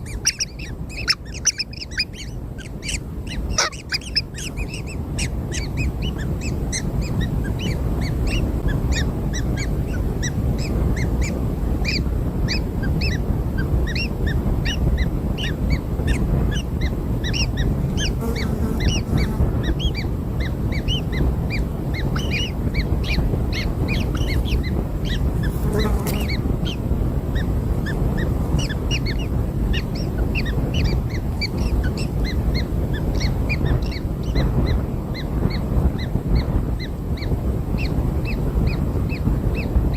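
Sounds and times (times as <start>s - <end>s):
chicks begging calls: 0.0s - 39.8s
steady low rumble: 0.0s - 39.9s.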